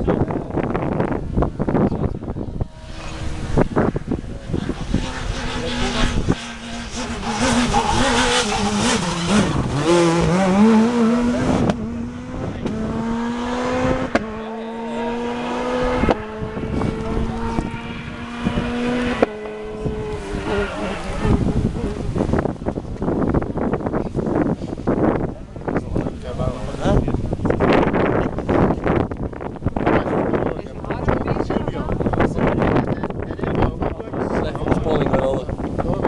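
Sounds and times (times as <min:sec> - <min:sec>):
rally car engine revving: 0:00.0 - 0:31.2.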